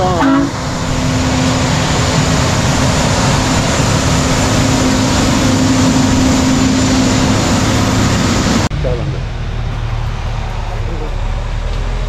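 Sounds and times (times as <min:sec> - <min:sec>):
constant low whine: 0:00.0 - 0:12.0
truck engine running: 0:00.0 - 0:12.0.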